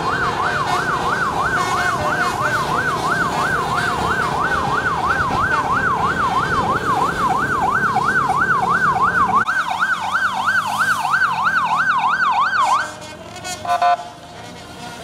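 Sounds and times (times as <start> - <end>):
electronic siren yelping: 0.0 - 12.9.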